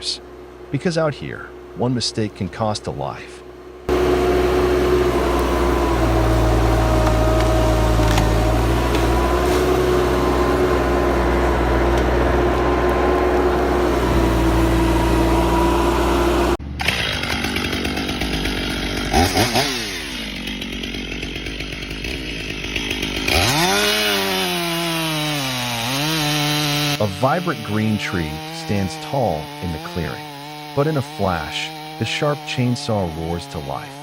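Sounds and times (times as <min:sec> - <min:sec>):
small engine droning: 0:00.0 - 0:34.0
chainsaw revving: 0:03.8 - 0:34.0.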